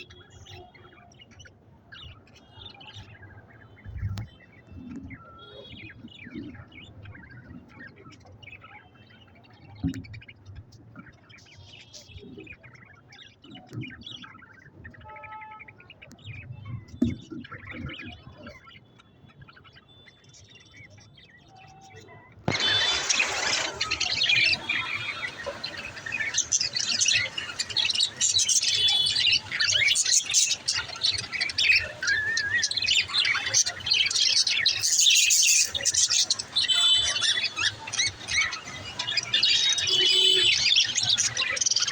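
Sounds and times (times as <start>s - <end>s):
budgerigars chirping and chattering: 0.0s - 41.9s.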